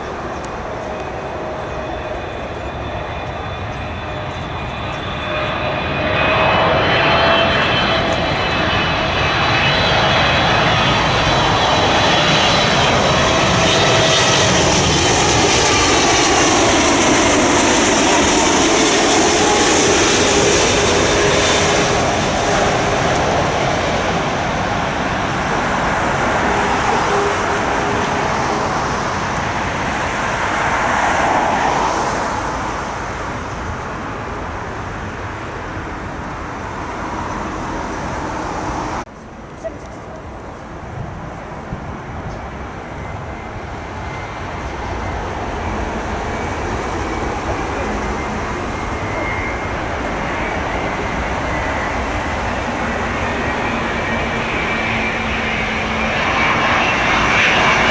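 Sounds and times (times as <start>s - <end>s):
jet airliner passing overhead: 0.0s - 57.9s.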